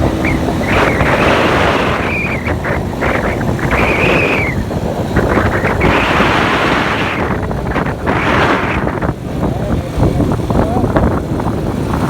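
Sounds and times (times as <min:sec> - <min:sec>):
motorcycle road and engine noise: 0:00.0 - 0:12.0
wind buffeting microphone: 0:00.0 - 0:12.0.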